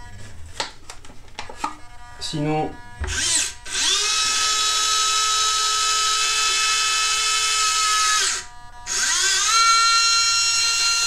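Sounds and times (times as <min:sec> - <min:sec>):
small electric motor whining: 0:01.8 - 0:11.0.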